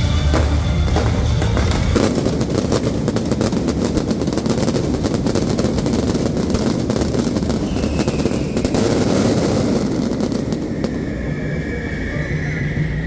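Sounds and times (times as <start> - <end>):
fireworks crackling and popping: 0.0 - 11.4.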